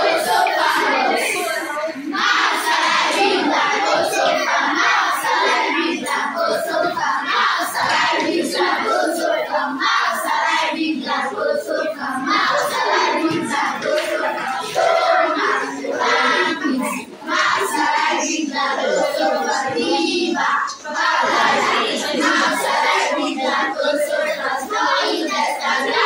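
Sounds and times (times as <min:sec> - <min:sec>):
children chattering: 0:00.0 - 0:26.0.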